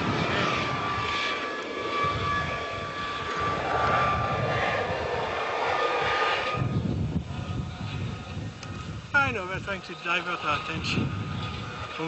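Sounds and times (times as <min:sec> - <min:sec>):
helicopter engine whine: 0:00.0 - 0:12.0
helicopter rotor noise: 0:00.0 - 0:12.0.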